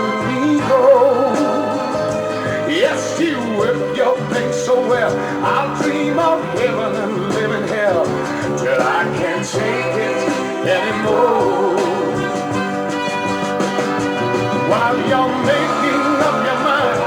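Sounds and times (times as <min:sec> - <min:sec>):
pop-rock band playing: 0:00.0 - 0:17.0
sliding melody line: 0:00.0 - 0:17.0.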